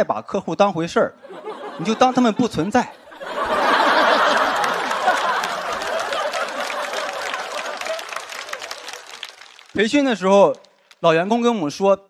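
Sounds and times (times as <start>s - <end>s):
audience laughing and clapping: 1.2s - 11.0s.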